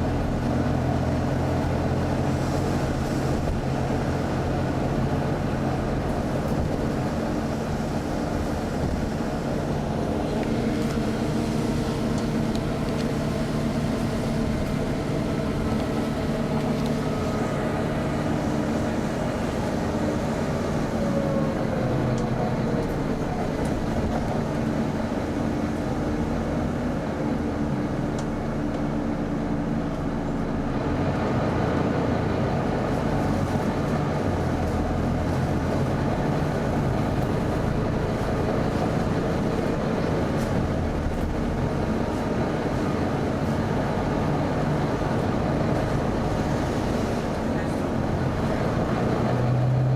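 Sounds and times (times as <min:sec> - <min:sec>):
diesel bus engine idling: 0:00.0 - 0:49.9
loud engine cooling fan drone: 0:00.0 - 0:49.9.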